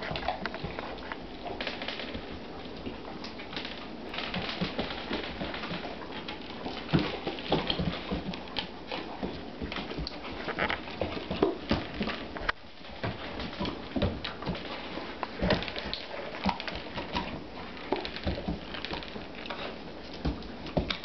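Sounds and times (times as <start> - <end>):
claws clicking on wood floor: 0.0 - 21.0
dog eating kibble: 0.0 - 21.0.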